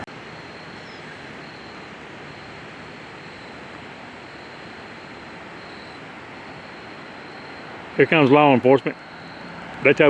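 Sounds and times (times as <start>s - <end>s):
large river rushing: 0.0s - 10.0s.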